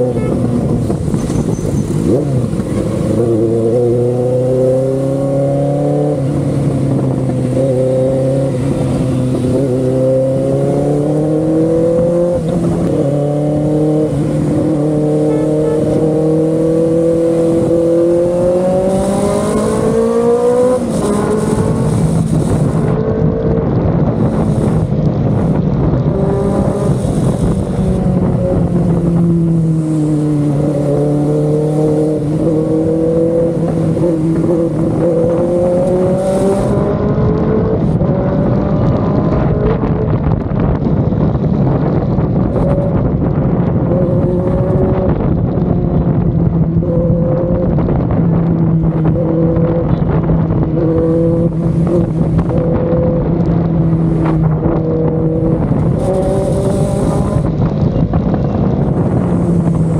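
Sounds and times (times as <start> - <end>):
motorcycle engine running: 5.6 - 59.9.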